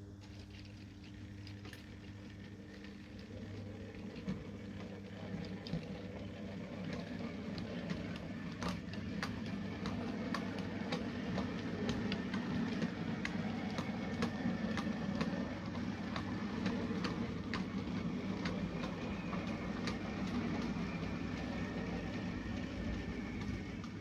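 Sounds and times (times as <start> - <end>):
motor and rolling wheels hum: 0.0 - 24.0
wheels clicking over rail joints: 0.0 - 24.0.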